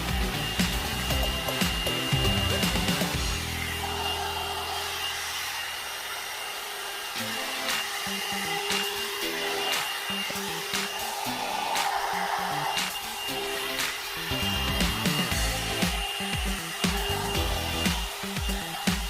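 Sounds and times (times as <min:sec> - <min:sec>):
background music with beat: 0:00.0 - 0:04.2, 0:07.2 - 0:19.0
hair dryer blowing with whine: 0:00.0 - 0:19.0.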